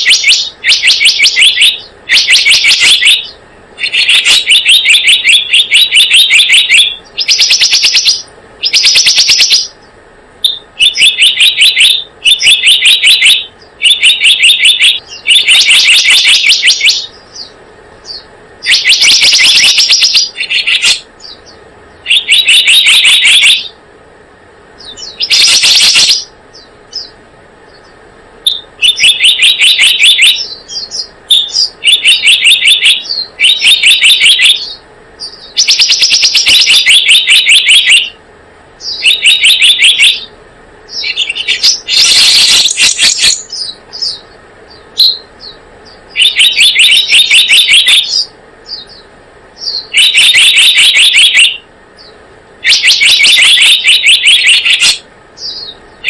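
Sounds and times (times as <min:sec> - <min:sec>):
bird chirping trills: 0:00.0 - 0:23.8, 0:24.7 - 0:38.2, 0:38.8 - 0:56.0.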